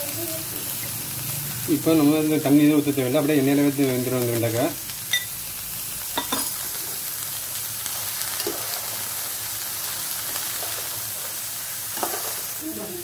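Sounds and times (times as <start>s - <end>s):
okra sizzling in hot oil: 0.0s - 13.0s.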